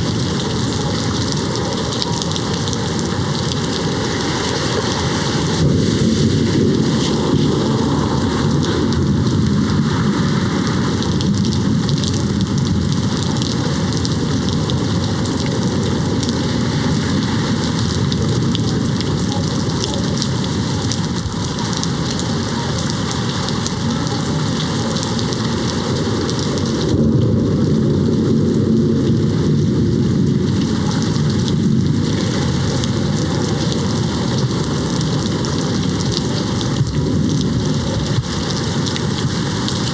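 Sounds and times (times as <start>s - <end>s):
distant thunder rumble: 0.0s - 39.9s
rain hitting a window: 0.0s - 39.9s.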